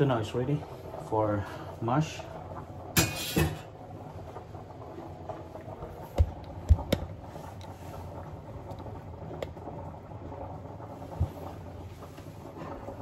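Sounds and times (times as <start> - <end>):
low kitchen hum: 0.0 - 13.0.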